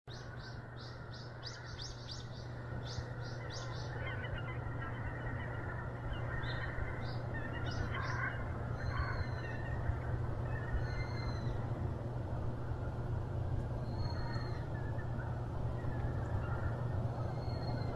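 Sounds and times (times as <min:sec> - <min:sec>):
small birds chirping: 0:00.1 - 0:11.8, 0:13.6 - 0:17.9
steady low hum: 0:00.1 - 0:17.9.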